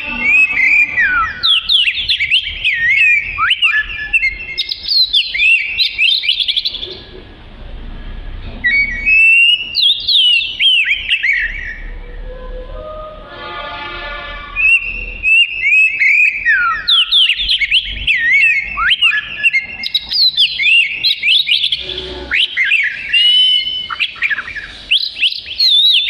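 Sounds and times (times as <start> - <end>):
bird singing whistles: 0.0 - 7.0, 8.6 - 11.9, 14.6 - 26.0.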